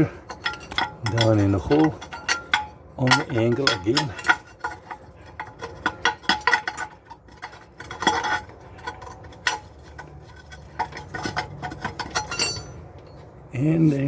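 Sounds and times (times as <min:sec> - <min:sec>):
cable and anchor plate clanking: 0:00.0 - 0:13.4.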